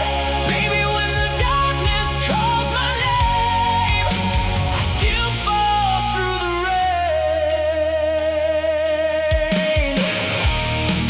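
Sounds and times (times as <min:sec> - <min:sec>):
bass and drums: 0:00.0 - 0:11.0
distorted electric guitar lead: 0:00.0 - 0:11.0.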